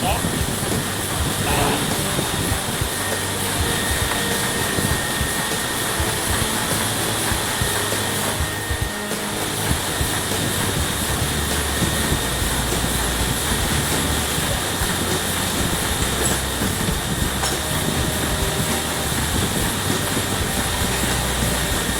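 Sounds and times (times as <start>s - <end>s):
printing machinery clattering: 0.0s - 21.9s.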